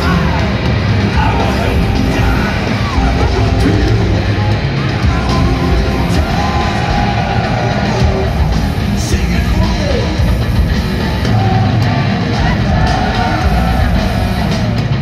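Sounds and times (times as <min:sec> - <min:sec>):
crowd yelling: 0:00.0 - 0:15.0
distorted electric guitars: 0:00.0 - 0:15.0
heavy metal band playing live: 0:00.0 - 0:15.0.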